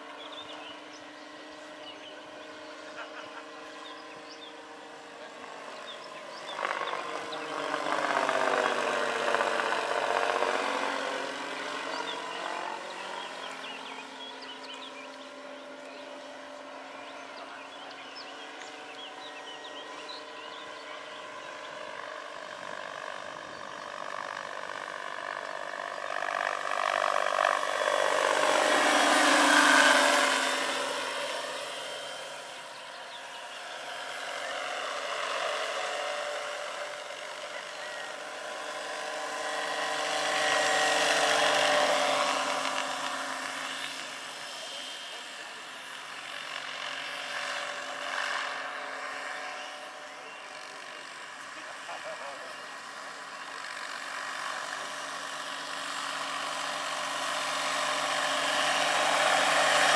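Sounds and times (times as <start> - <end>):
model helicopter whine and rotor hum: 0.0 - 59.9.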